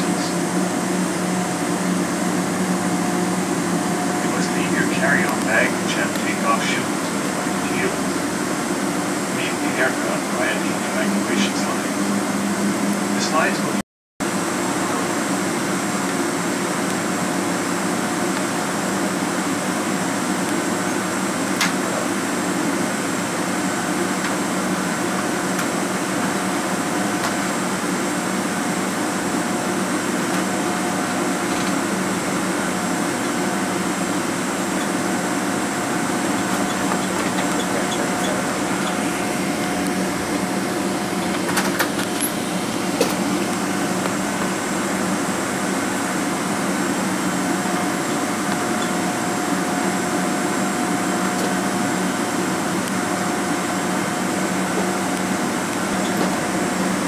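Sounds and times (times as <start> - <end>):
air-conditioning hum: 0.0 - 57.0
aircraft engines idling: 0.0 - 57.0.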